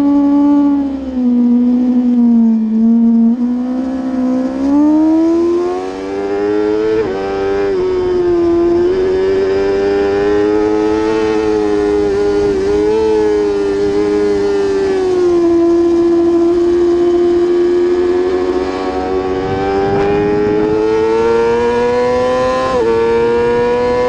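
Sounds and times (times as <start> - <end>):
racing motorcycle engine high revs: 0.0 - 24.0.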